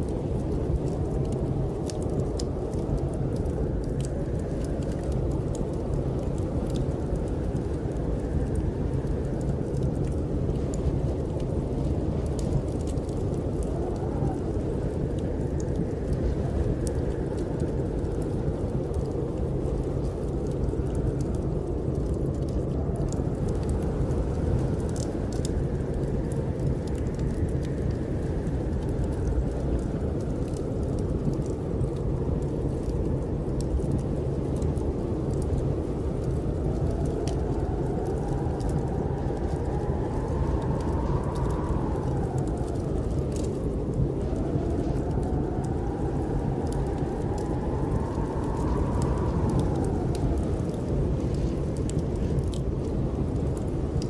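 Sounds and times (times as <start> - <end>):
wind blowing: 0.0 - 54.0
wood fire crackling: 0.0 - 54.0.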